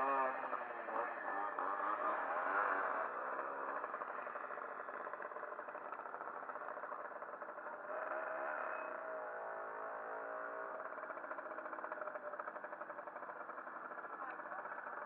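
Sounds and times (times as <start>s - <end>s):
moped engine running: 0.0s - 15.0s.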